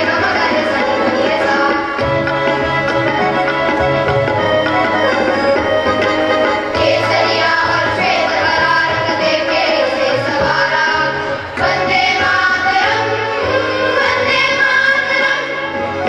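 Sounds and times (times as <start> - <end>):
instrumental backing: 0.0 - 16.0.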